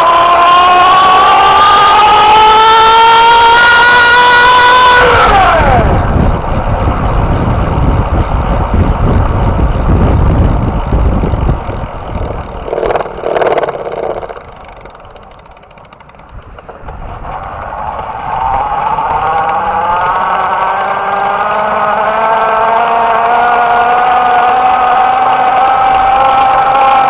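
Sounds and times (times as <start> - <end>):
wind noise: 0.0 - 15.2, 15.9 - 27.0
electric bike motor whine: 0.0 - 27.0
rolling rumble: 3.8 - 27.0.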